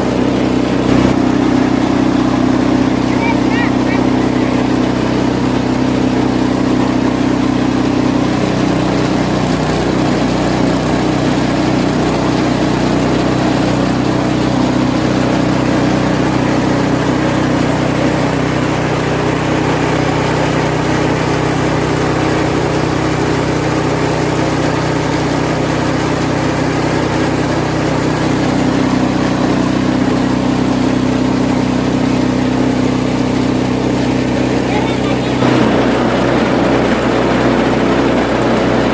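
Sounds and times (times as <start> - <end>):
chopping machine engine running: 0.0 - 38.9.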